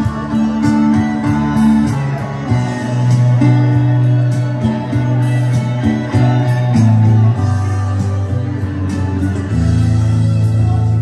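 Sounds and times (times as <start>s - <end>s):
amplified guitar music: 0.0s - 11.0s
low bass notes: 0.0s - 11.0s.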